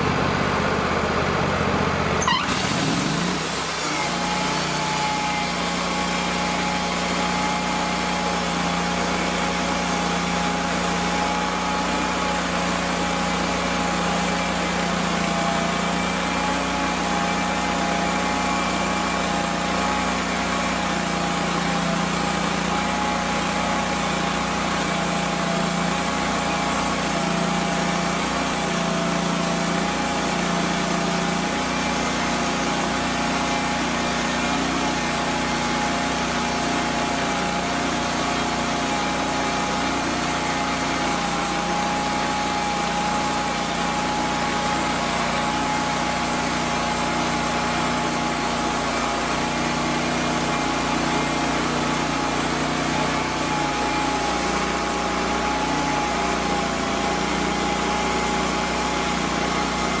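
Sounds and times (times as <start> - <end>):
sawmill engine droning: 0.0 - 60.0.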